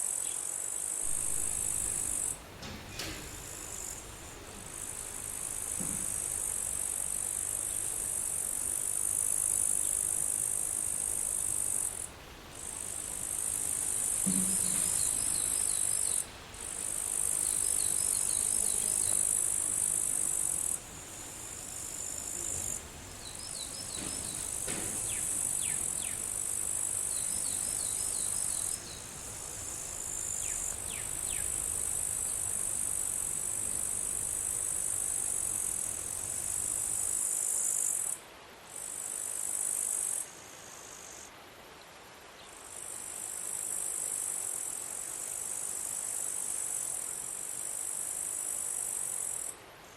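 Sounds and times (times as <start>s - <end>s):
insects trilling: 0.0s - 41.3s, 42.7s - 49.6s.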